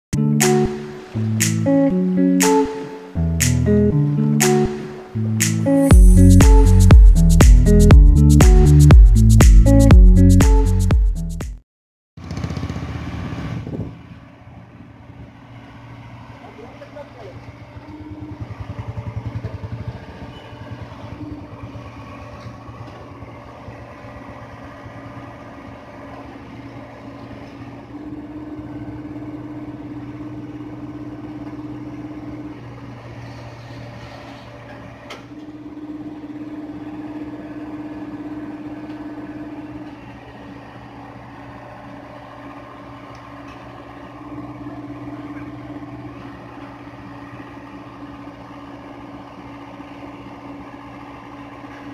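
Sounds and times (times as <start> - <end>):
excavator diesel engine running: 0.2 - 11.3, 12.2 - 51.9.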